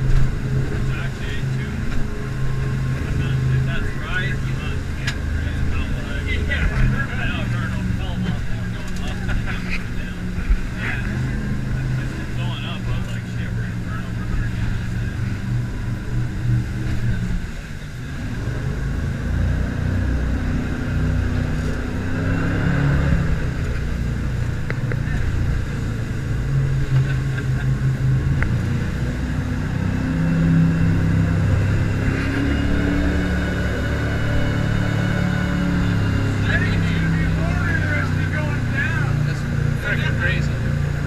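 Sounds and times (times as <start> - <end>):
jet boat engine running: 0.0 - 41.0.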